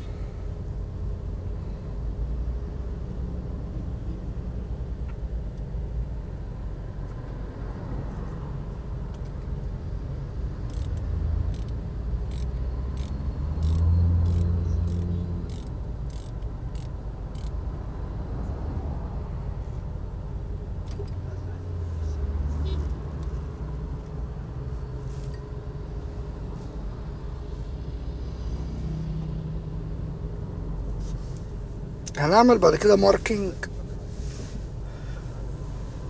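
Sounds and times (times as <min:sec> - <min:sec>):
low steady rumble: 0:00.0 - 0:36.0.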